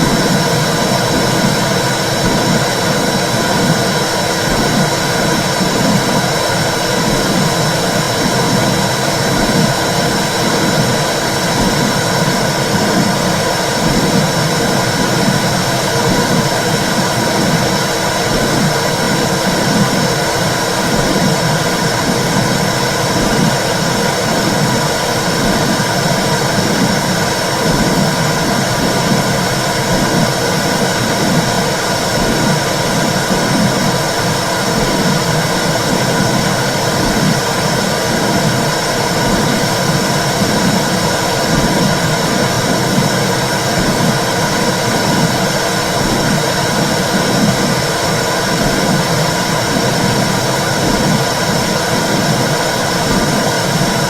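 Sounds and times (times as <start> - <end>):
low rhythmic pulsing: 0.0 - 54.0.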